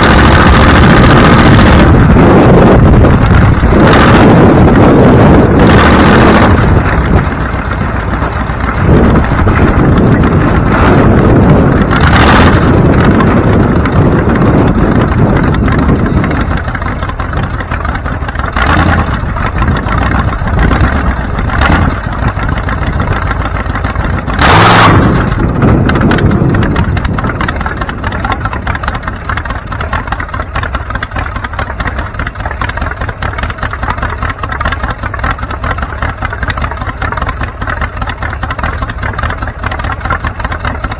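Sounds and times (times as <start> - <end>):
car road and engine noise: 0.0 - 40.9.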